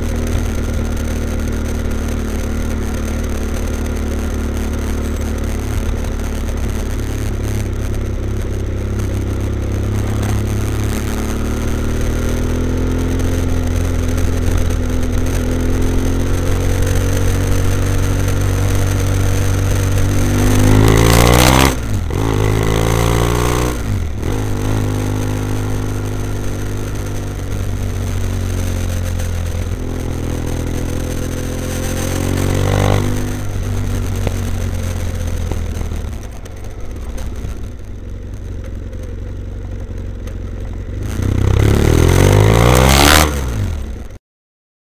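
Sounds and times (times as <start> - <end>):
motorcycle engine accelerating: 0.0 - 44.2.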